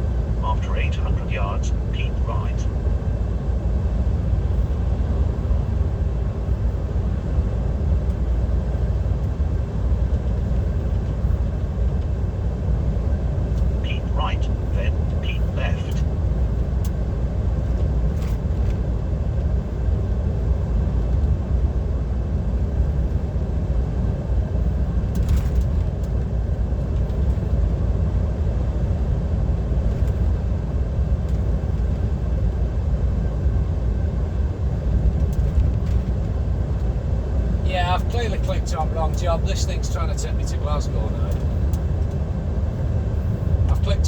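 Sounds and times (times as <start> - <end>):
lorry engine rumble inside cab: 0.0 - 44.0.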